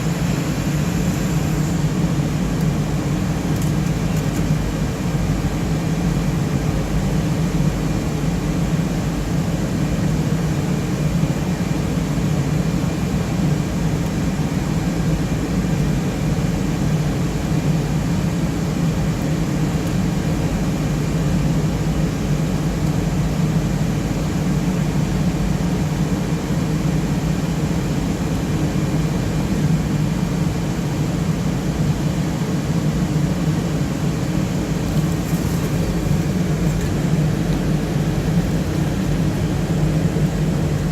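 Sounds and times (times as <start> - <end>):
cooling fans whirring: 0.0 - 40.9.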